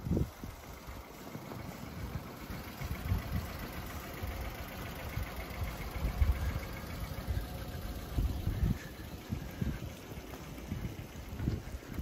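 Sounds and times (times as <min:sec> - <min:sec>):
faint hiss of wind: 0:00.0 - 0:12.0
wind buffeting microphone: 0:00.0 - 0:12.0.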